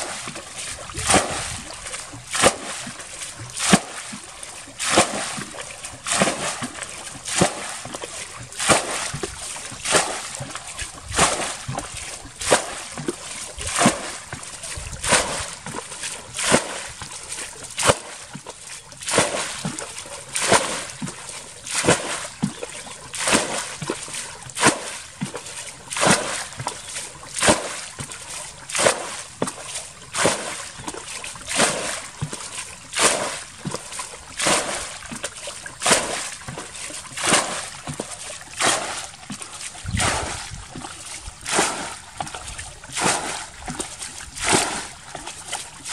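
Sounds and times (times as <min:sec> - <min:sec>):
bucket of water splashing: 0:00.0 - 0:45.9
water sloshing and trickling: 0:00.0 - 0:45.9.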